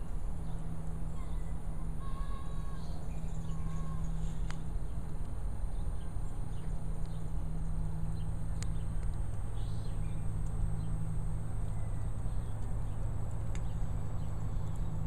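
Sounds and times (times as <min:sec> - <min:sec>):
faint high whine: 0:00.0 - 0:15.0
low hum: 0:00.0 - 0:15.0.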